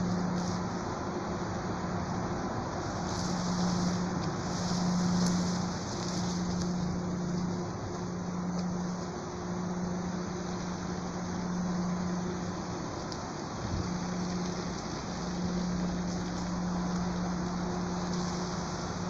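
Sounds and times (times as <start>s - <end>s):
low steady hum: 0.0s - 19.0s
river water over rocks: 0.0s - 19.0s.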